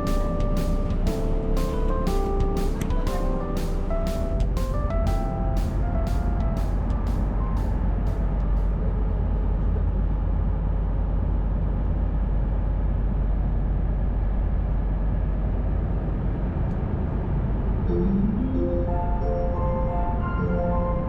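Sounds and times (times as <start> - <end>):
boat engine rumble: 0.0 - 21.0.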